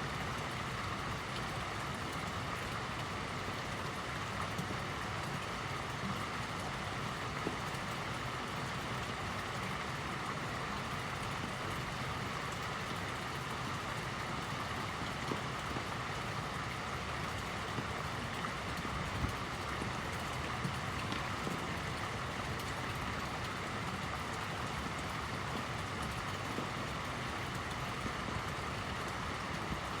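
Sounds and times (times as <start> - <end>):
faint drips and ticks: 0.0 - 30.0
fountain water splashing: 0.0 - 30.0.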